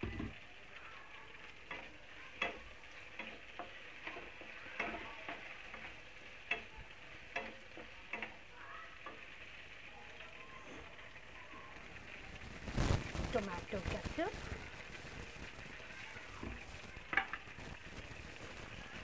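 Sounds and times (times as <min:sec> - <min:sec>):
pasta sizzling in pan: 0:00.0 - 0:19.0.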